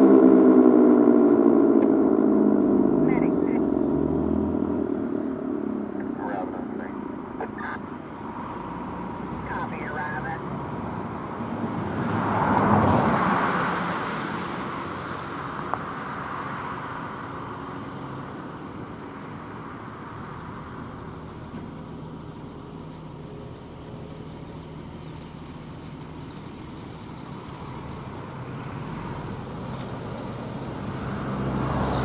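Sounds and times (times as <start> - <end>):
car passing close by: 0.0 - 32.0
road traffic noise: 0.0 - 32.0.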